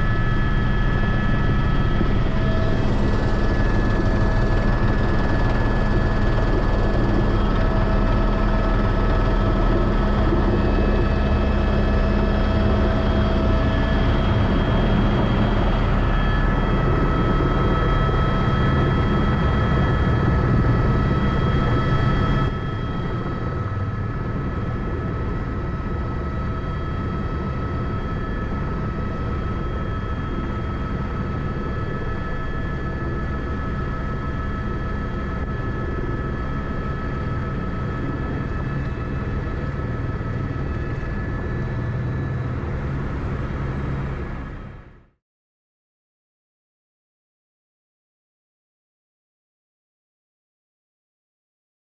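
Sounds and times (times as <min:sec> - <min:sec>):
thin turbine whines: 0:00.0 - 0:44.8
helicopter drone: 0:00.0 - 0:45.2.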